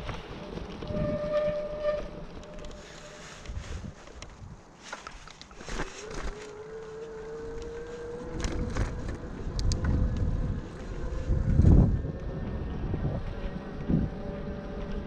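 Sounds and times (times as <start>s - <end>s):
wind buffeting microphone: 0.0s - 4.8s, 7.2s - 15.0s
bicycle tyre and road noise: 0.0s - 15.0s.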